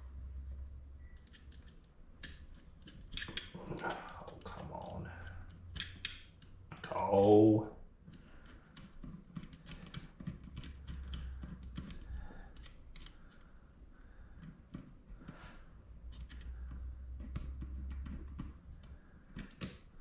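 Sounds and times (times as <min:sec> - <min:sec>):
small clicks and rattles of parts: 0:01.1 - 0:13.6, 0:14.2 - 0:15.4, 0:16.0 - 0:20.0.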